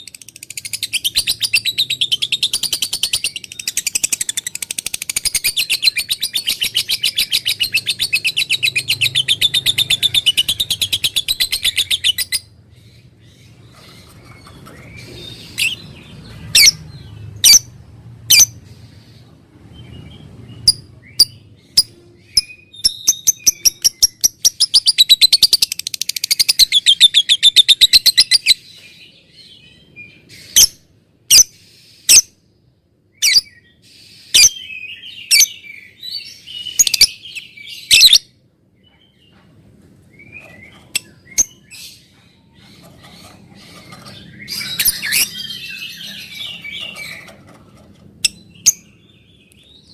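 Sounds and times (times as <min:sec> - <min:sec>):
lovebird chirping and chattering: 0:00.0 - 0:19.2, 0:19.8 - 0:28.7, 0:33.2 - 0:38.3, 0:40.2 - 0:49.9.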